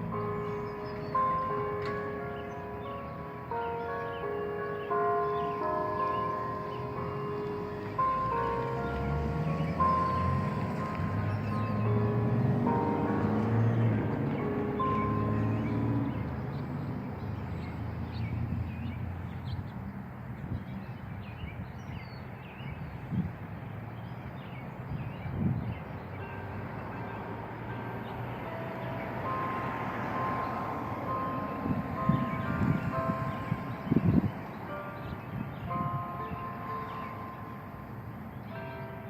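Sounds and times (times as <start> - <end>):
church bell ringing: 0.0 - 19.6, 25.9 - 39.0.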